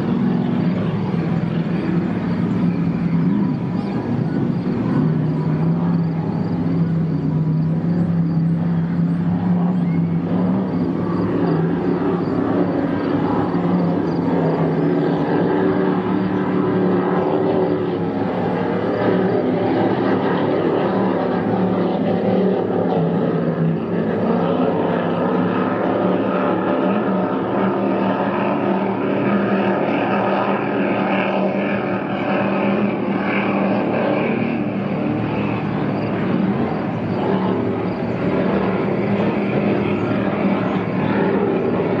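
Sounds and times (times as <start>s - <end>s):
powerboat engines droning: 0.0s - 42.0s.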